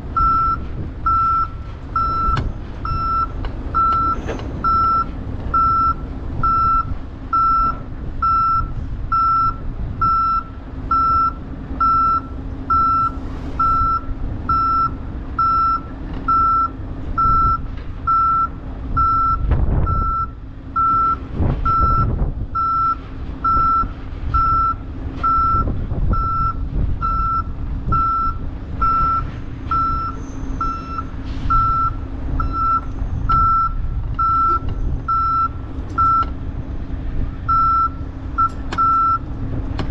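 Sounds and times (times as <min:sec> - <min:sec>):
diesel engine running: 0:00.0 - 0:39.9
heavy low rumbles: 0:00.0 - 0:39.9
reversing alarm beeping: 0:00.2 - 0:36.3, 0:37.5 - 0:39.3.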